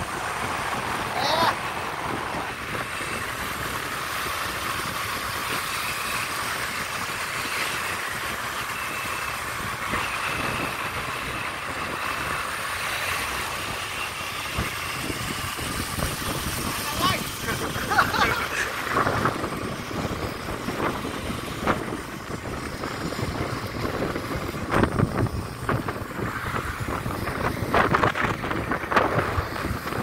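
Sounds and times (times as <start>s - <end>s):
motorcycle engines running: 0.0s - 30.0s
road noise: 0.0s - 30.0s.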